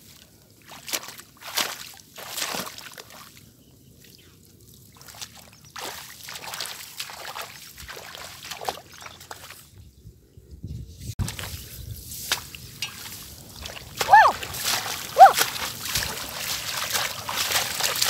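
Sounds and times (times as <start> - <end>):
water sloshing and splashing: 0.0 - 3.4, 4.7 - 9.6, 11.2 - 18.0.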